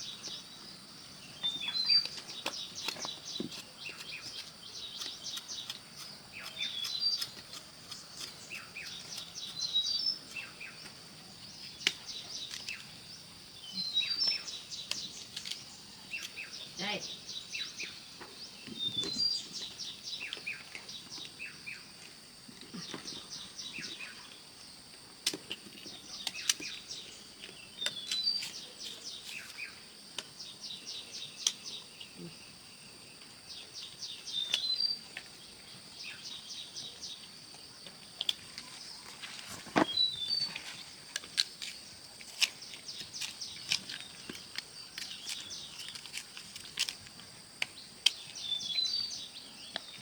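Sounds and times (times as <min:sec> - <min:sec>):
bird singing: 0:00.0 - 0:25.0, 0:25.7 - 0:50.0.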